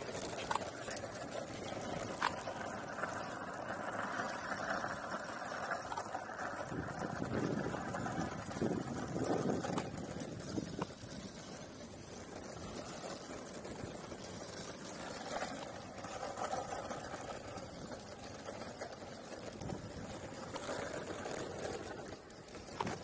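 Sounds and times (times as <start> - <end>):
skateboard wheels rolling on asphalt: 0.0 - 23.0.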